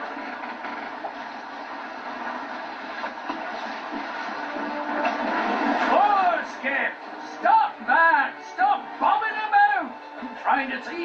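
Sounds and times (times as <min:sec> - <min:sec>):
steam locomotive running: 0:00.0 - 0:11.0.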